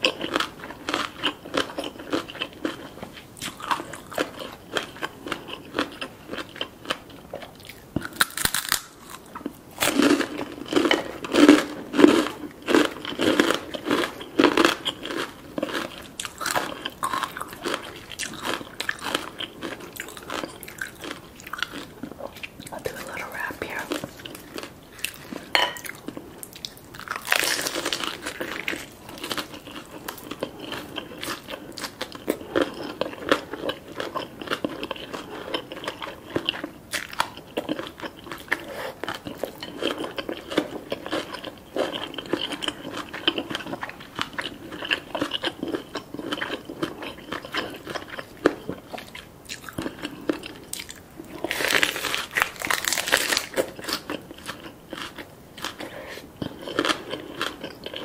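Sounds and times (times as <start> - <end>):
crunchy bites: 0.0 - 22.6, 23.8 - 55.8
crunching chews: 0.0 - 58.0.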